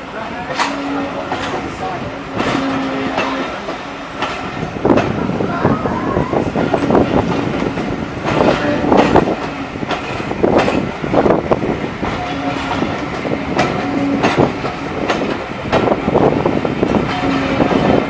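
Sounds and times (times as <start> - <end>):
train couplings rattling: 0.1 - 5.3, 6.6 - 18.0
train wheels clacking: 0.2 - 5.4, 6.3 - 18.0.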